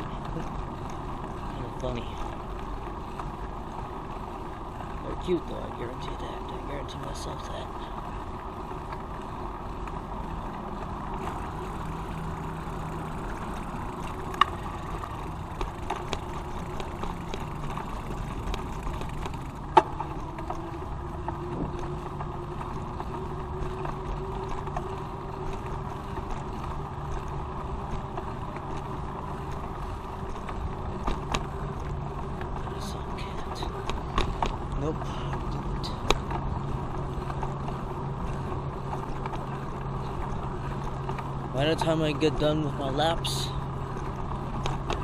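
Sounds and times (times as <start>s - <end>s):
bicycle clicks: 0.0s - 45.0s
bicycle rolling on road: 0.0s - 45.0s
low hum: 0.0s - 45.0s.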